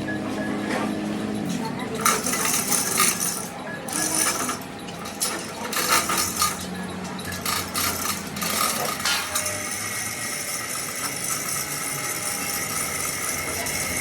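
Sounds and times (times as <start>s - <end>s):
metal scraping and clinking: 2.0s - 14.0s.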